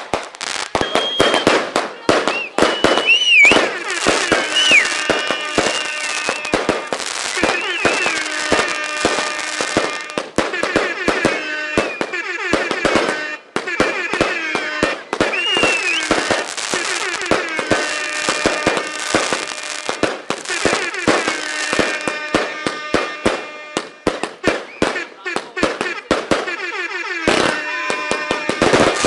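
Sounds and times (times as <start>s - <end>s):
fireworks bangs and crackles: 0.0s - 29.0s
whistling fireworks: 0.0s - 29.0s.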